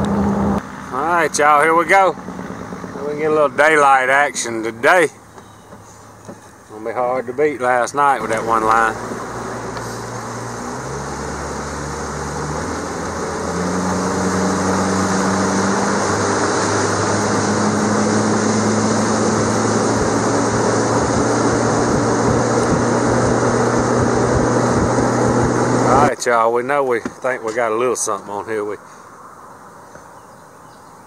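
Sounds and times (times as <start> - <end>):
outboard motor running: 0.0 - 28.1.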